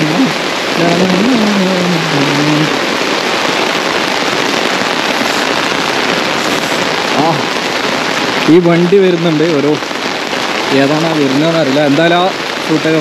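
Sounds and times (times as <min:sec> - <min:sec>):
rain falling into water: 0:00.0 - 0:13.0
rain pattering on umbrella: 0:00.0 - 0:13.0.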